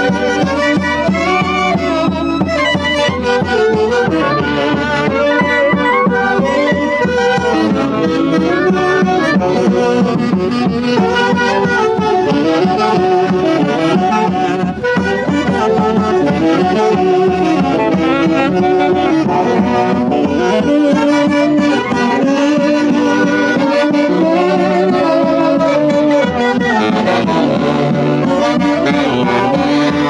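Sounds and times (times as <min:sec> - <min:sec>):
live orchestra playing lively tune: 0:00.0 - 0:30.0
saxophones playing: 0:00.0 - 0:30.0.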